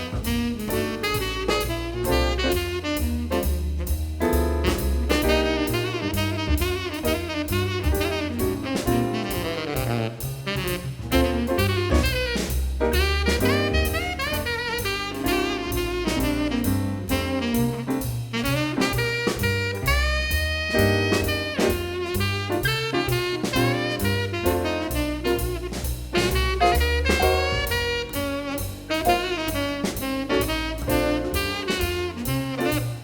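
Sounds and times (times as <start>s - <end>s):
jazz music: 0.0s - 33.0s.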